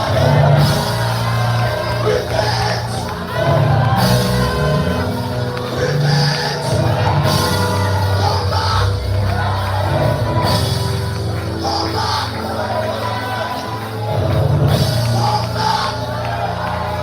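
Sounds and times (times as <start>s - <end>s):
band playing worship music: 0.0s - 17.0s
people singing and shouting: 0.0s - 17.0s.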